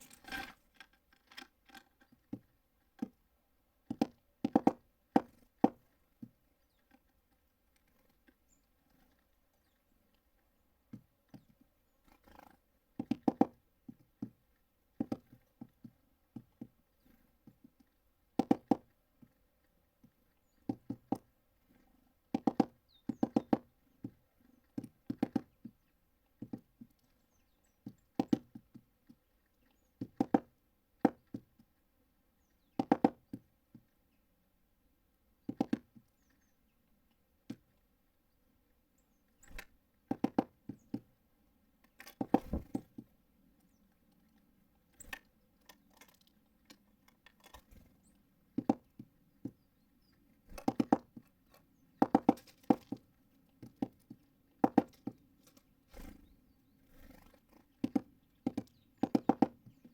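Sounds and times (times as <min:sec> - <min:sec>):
birds pecking on feeder: 0:00.0 - 0:34.2, 0:35.4 - 0:59.9.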